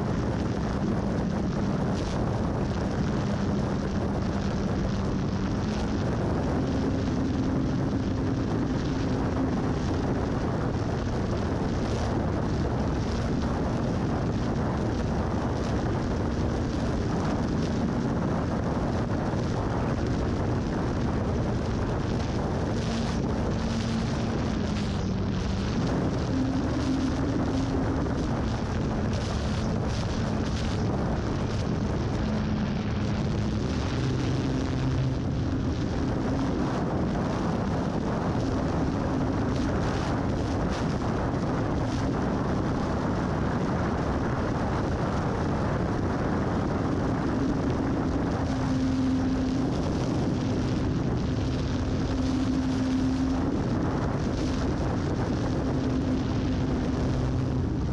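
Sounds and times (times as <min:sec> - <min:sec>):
electric motor and propeller droning: 0:00.0 - 0:57.9
wind rush on microphone: 0:00.0 - 0:57.9.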